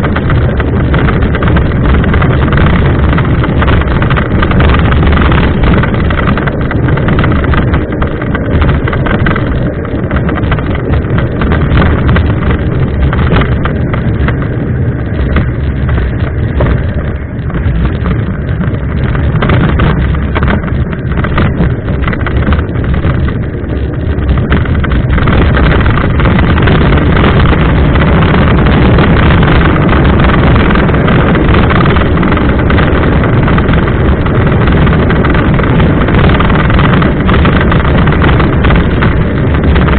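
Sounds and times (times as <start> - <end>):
bike rolling over rough trail: 0.0 - 39.9
wind buffeting microphone: 0.0 - 39.9.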